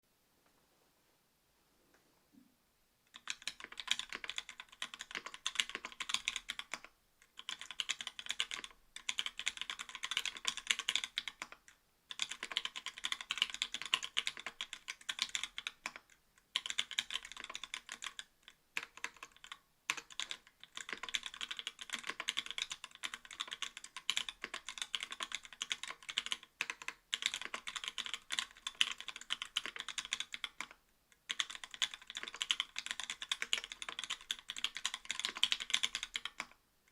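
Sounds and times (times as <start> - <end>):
mechanical keyboard typing: 3.1 - 36.9.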